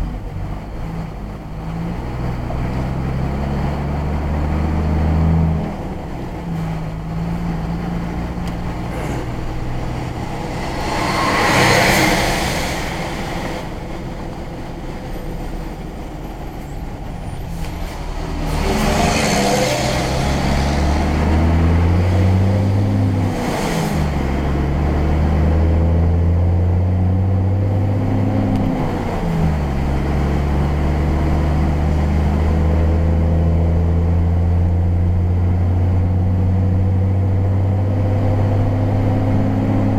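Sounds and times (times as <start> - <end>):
car engine shifting gears: 0.0 - 39.9.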